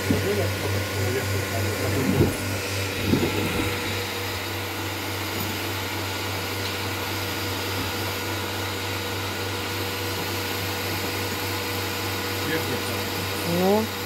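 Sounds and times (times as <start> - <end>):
vacuum pump humming and hissing: 0.0 - 14.0.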